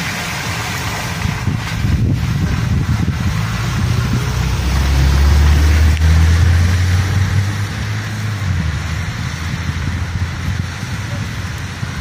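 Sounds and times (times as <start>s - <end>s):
car engine rumble: 0.0s - 12.0s
tyres hissing on wet pavement: 0.0s - 12.0s.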